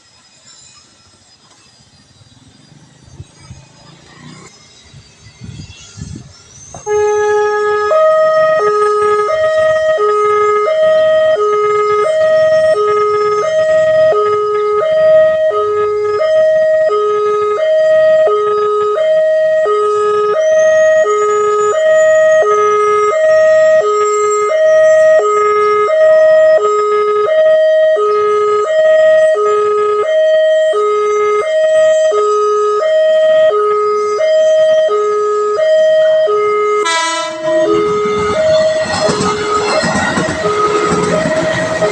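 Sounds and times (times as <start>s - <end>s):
electronic two-tone crossing alarm: 1.9s - 41.9s.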